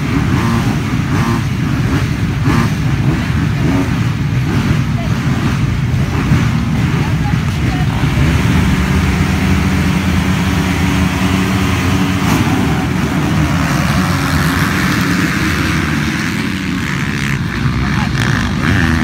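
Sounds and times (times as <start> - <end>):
motocross bike engines running: 0.0 - 19.0.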